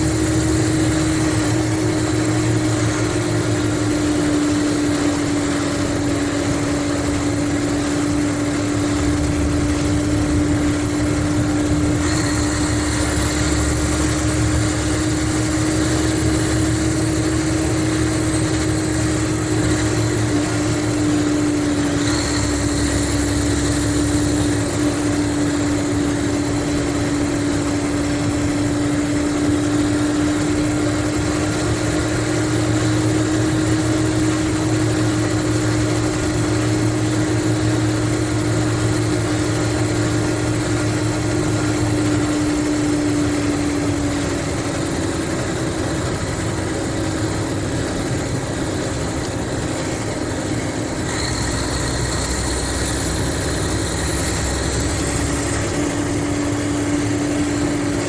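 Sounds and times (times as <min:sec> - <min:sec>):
coach diesel engine droning: 0:00.0 - 0:58.0
faint high whine: 0:00.0 - 0:58.0.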